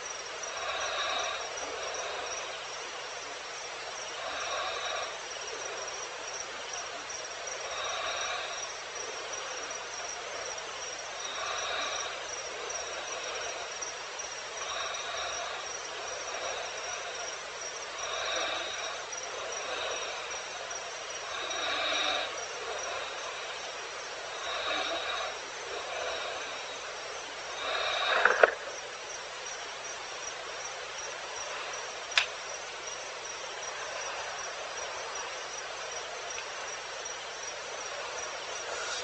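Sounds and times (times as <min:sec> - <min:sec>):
insects hissing: 0:00.0 - 0:39.0
pulsing cricket-like trill: 0:00.0 - 0:39.0.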